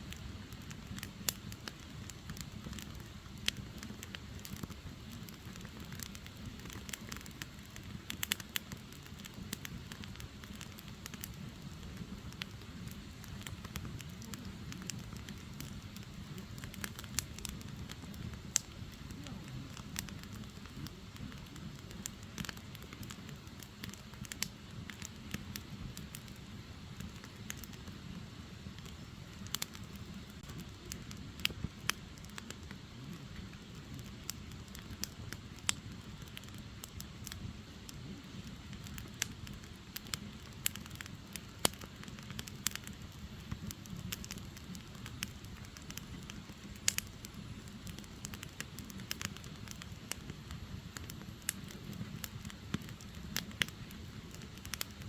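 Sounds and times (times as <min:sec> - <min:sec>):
firewood crackling and popping: 0:00.0 - 0:55.0
low rumble of flames: 0:00.0 - 0:55.0.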